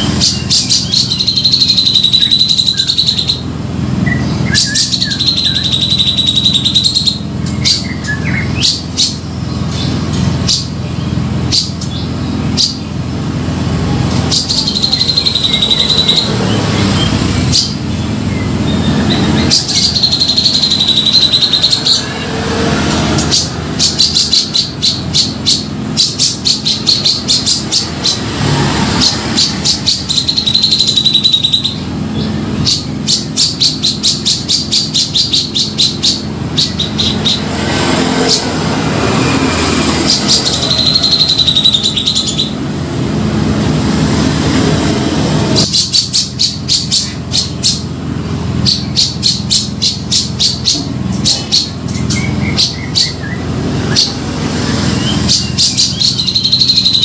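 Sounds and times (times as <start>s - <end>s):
bird chattering and whistling: 0.0s - 43.0s, 44.6s - 57.0s.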